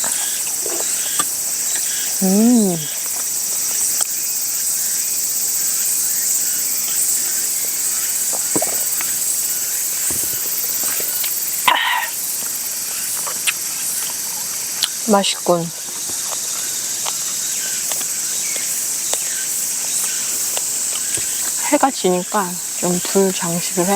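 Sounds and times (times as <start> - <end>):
insects chirping: 0.0 - 23.9.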